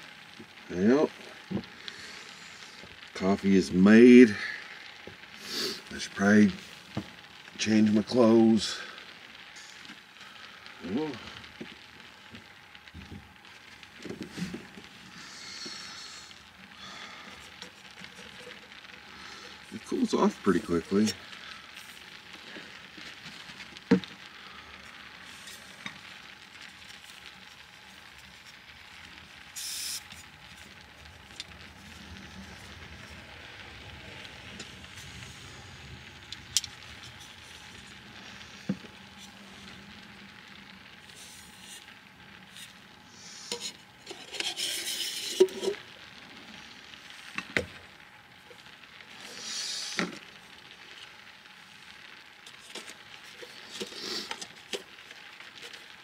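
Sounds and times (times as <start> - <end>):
steady soft hiss: 0.0 - 56.0.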